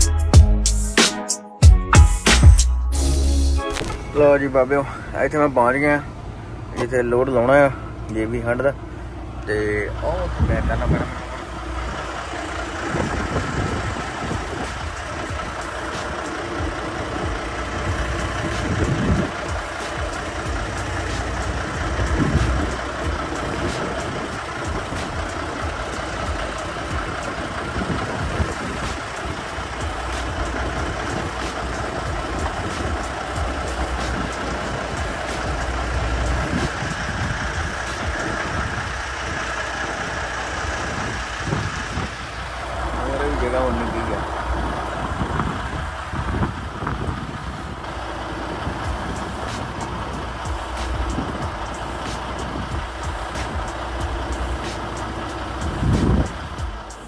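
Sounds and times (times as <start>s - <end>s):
truck diesel engine rumbling: 0.0s - 1.0s, 1.6s - 57.0s.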